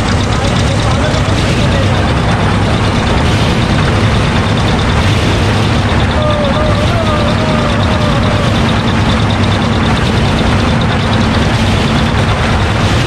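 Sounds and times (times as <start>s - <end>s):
toy train humming: 0.0s - 12.9s
fast ticking: 0.0s - 13.0s.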